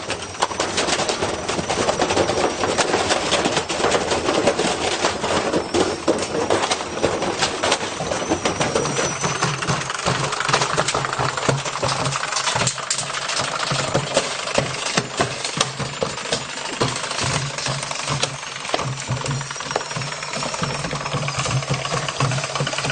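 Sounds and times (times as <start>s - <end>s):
low motor hum: 0.0s - 22.9s
washing machine knocking and rattling: 0.0s - 22.9s.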